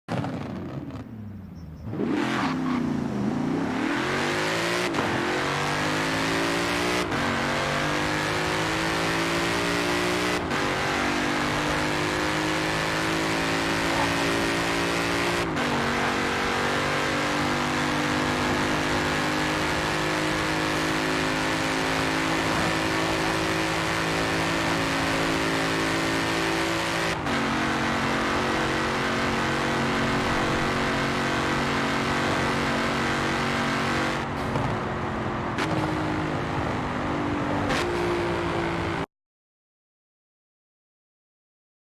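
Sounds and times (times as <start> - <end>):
car engine accelerating through gears: 0.1 - 39.1.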